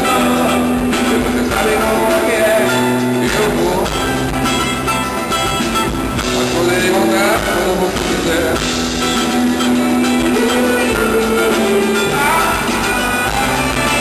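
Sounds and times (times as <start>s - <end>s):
live band playing: 0.0s - 14.0s
sliding lead melody: 0.0s - 14.0s.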